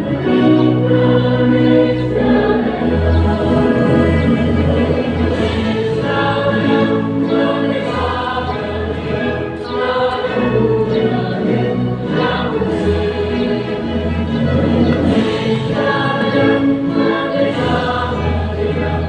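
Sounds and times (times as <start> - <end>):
choir singing long held notes: 0.0 - 19.0
musical accompaniment: 0.0 - 19.0.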